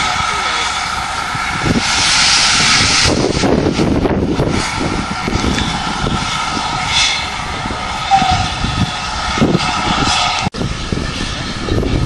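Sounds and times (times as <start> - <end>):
roaring hiss of escaping steam: 0.0 - 12.0
steam locomotive passing: 0.0 - 12.0
wind buffeting on microphone: 0.0 - 12.0.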